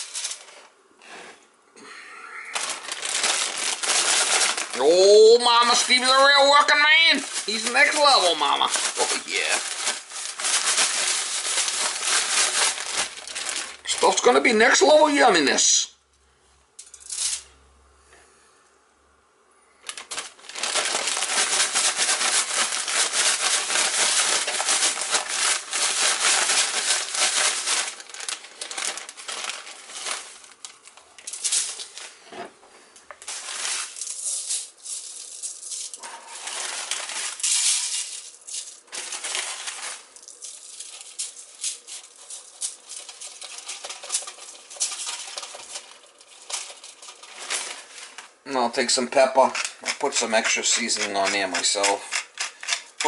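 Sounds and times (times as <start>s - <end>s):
plastic bag crinkling while shaken: 0.0s - 0.6s, 2.5s - 15.8s, 19.8s - 32.2s, 33.2s - 52.0s.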